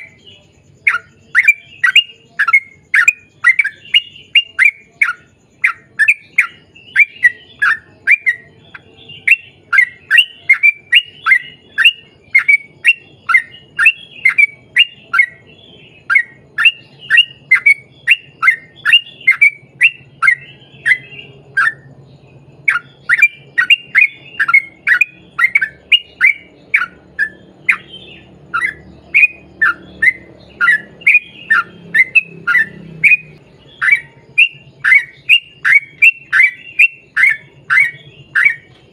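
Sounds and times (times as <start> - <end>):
bulbul calling: 0.0 - 38.9.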